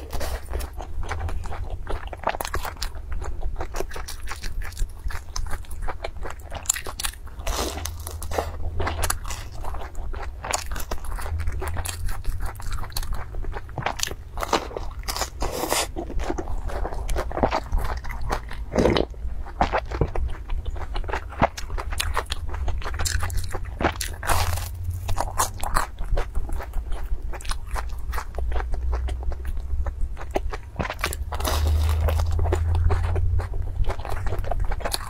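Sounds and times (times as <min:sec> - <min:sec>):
crunchy wet chewing: 0:00.0 - 0:35.0
low steady hum: 0:00.0 - 0:35.0.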